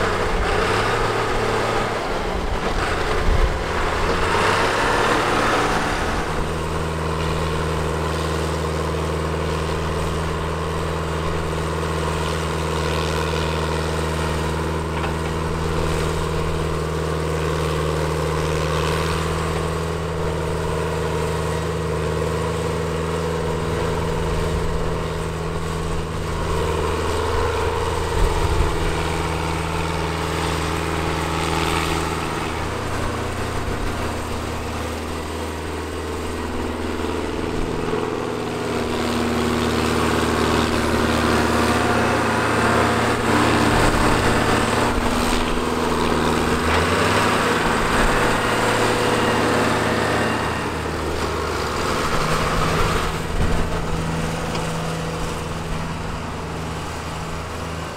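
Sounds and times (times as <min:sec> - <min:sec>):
earthmoving machine engine running: 0:00.0 - 0:57.9.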